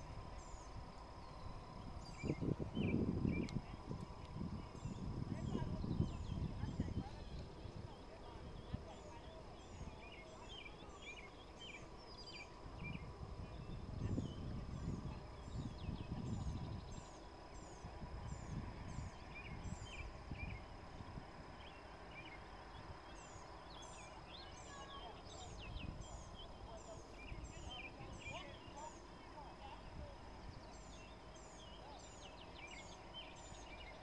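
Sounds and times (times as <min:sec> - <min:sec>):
songbirds chirping: 0:00.0 - 0:34.0.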